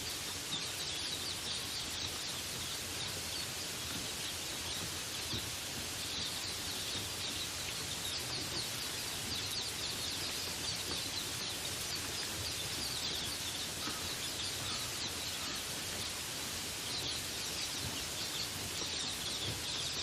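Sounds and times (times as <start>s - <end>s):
rain falling in forest: 0.0s - 20.0s
small birds chirping: 0.0s - 20.0s.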